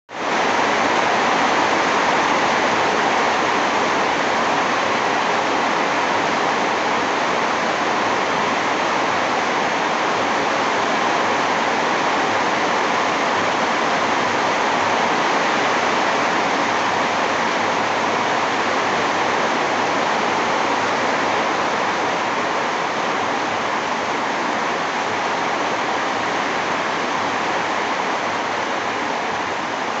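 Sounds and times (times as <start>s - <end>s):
heavy rain on a veranda: 0.1s - 30.0s.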